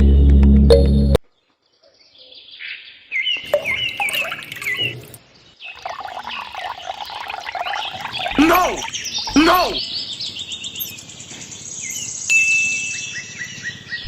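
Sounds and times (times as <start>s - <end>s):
birds chirping: 1.3s - 14.0s.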